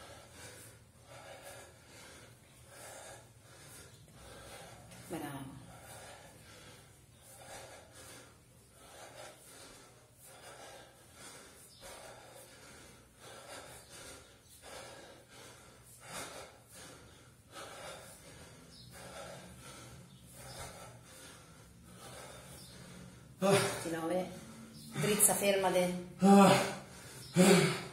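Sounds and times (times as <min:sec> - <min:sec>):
man breathing hard: 0:00.0 - 0:25.4, 0:26.0 - 0:27.9.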